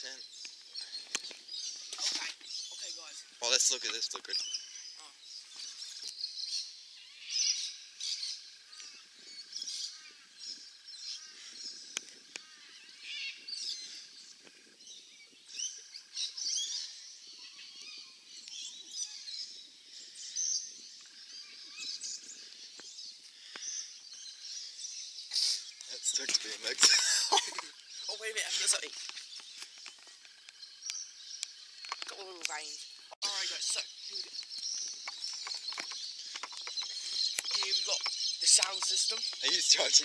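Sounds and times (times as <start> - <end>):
birds chirping and calling: 0.0 - 40.0.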